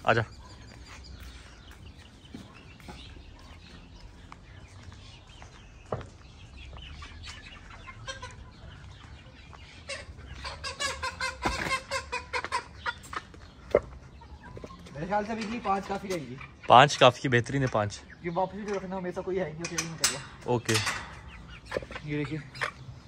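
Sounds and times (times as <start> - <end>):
chickens clucking and squawking: 0.0 - 23.0.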